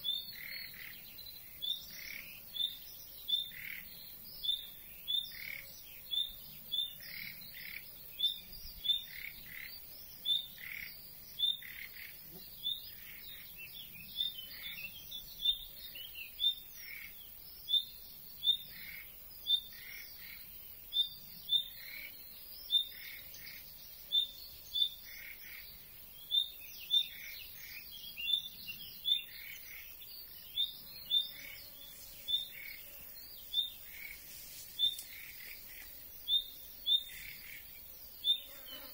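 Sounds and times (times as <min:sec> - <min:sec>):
bird chirping calls: 0:00.0 - 0:38.9.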